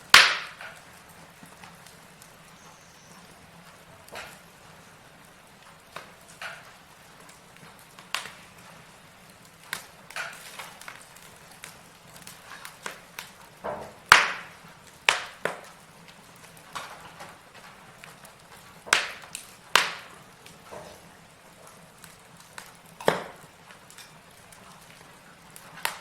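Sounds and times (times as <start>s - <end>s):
faint fire hiss: 0.0s - 26.0s
logs crackling and popping in fire: 0.0s - 26.0s.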